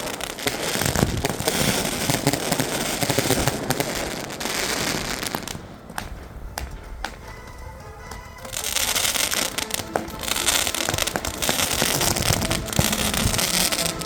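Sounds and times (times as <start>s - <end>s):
firework bangs: 0.0s - 14.0s
firework crackling: 0.0s - 14.0s.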